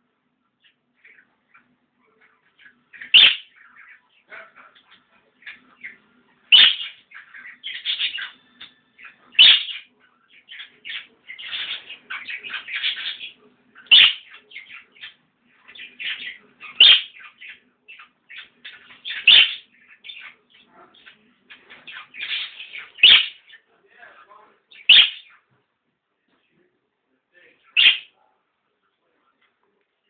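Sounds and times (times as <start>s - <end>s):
parrot chirps and chatter: 0.4s - 25.7s, 27.3s - 29.2s.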